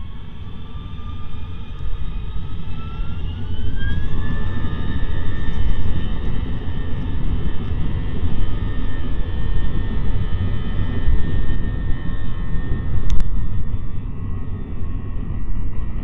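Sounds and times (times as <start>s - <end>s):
high fan whine: 0.0s - 16.0s
jet engines rumbling: 0.0s - 16.0s
wheels rumbling on runway: 0.0s - 16.0s.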